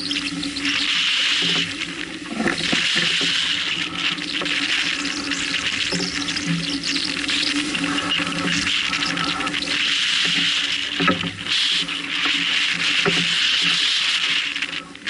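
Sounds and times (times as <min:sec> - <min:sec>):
water splashing along hull: 0:00.0 - 0:15.0.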